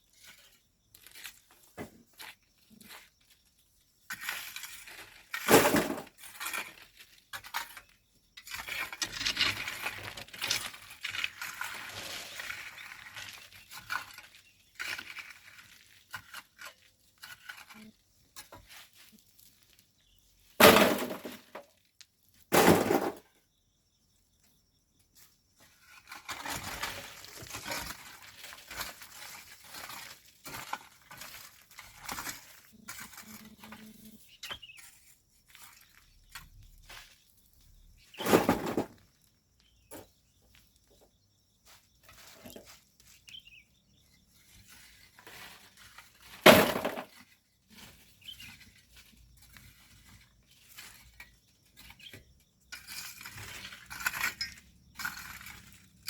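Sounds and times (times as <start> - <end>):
stones scraping and rattling: 0.0 - 21.7, 25.6 - 40.8, 41.6 - 56.0
tools crunching into gravel: 0.1 - 21.6, 25.6 - 40.7, 41.6 - 56.0.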